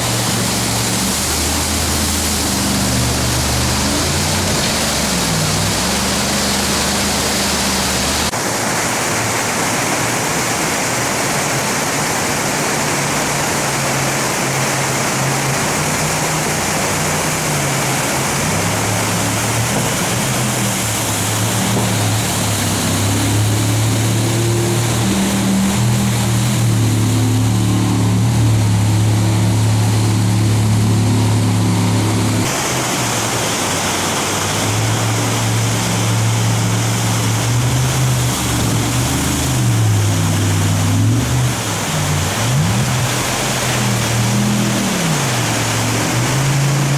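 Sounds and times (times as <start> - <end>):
jet boat engine running hard: 0.0 - 46.9
rushing water: 0.0 - 46.9
wind: 0.0 - 46.9.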